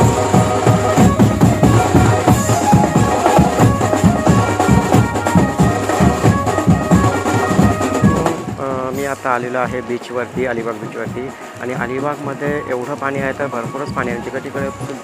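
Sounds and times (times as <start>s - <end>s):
fast drum beat: 0.0s - 15.0s
lively banjo band music: 0.0s - 15.0s.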